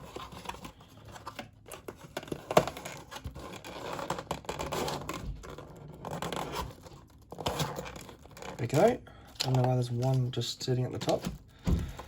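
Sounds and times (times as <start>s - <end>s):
rustling of card packaging: 0.0s - 12.0s.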